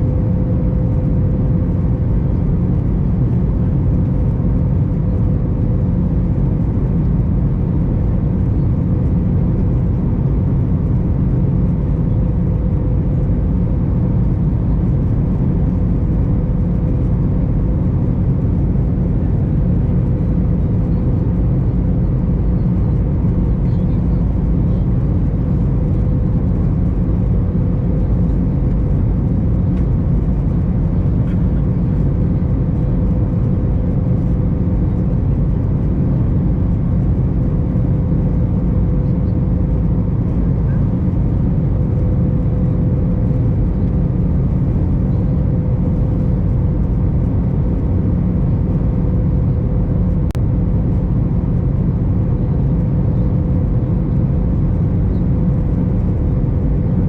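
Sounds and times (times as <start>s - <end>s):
aircraft cabin engine rumble: 0.0s - 57.0s
constant hum: 0.0s - 57.0s.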